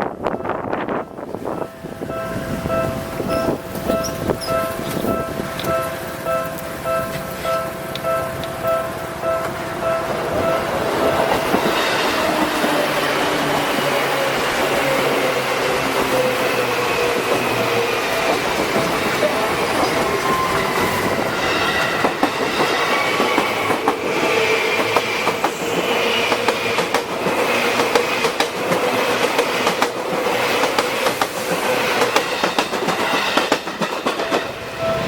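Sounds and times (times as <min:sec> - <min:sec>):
electric train passing: 0:00.0 - 0:35.0
wheels squealing on rails: 0:00.2 - 0:35.0
train wheels clicking over rail joints: 0:02.0 - 0:35.0.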